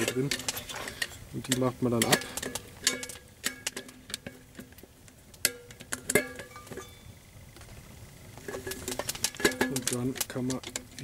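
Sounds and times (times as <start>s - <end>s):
metal pot parts clinking: 0.0s - 4.8s, 5.4s - 7.2s, 8.4s - 11.0s.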